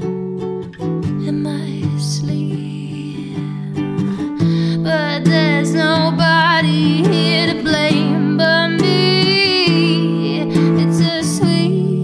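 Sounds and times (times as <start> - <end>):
strummed acoustic guitar: 0.0 - 12.0
woman singing: 1.0 - 12.0.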